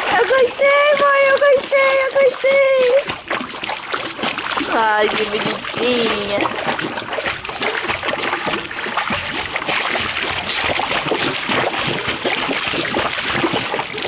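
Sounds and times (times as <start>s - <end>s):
dog paddling and splashing water: 0.0s - 14.0s.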